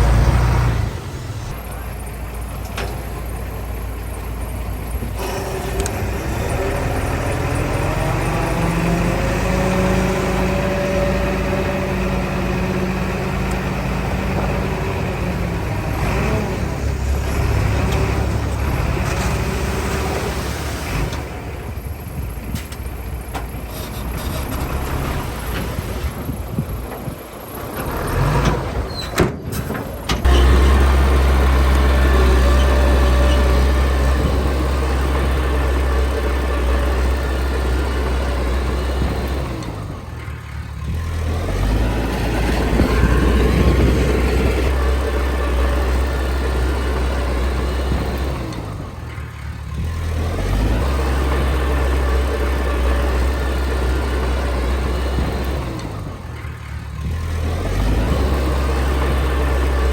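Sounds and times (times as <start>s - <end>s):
heavy diesel machinery engine hum: 0.0s - 59.9s.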